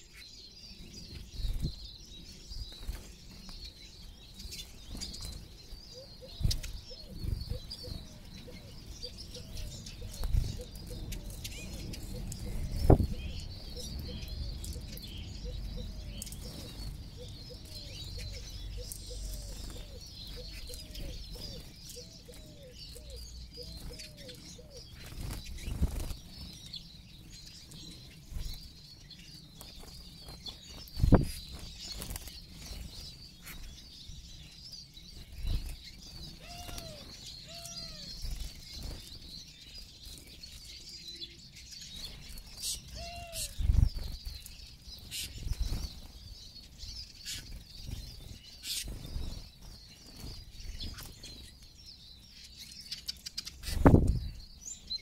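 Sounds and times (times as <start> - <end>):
birds twittering: 0.0 - 55.0
repeated low bird calls: 0.0 - 55.0.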